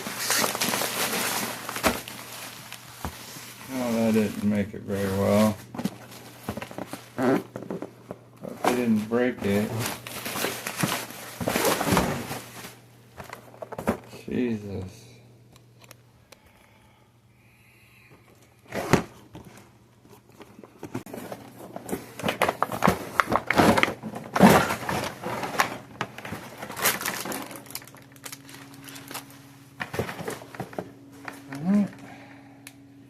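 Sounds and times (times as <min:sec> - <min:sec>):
plastic packaging rustling: 0:00.0 - 0:14.2, 0:18.7 - 0:32.1.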